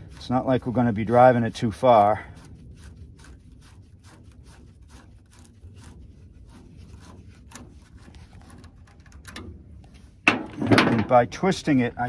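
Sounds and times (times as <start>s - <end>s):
rubber hose scraping and rubbing: 0.0s - 11.8s.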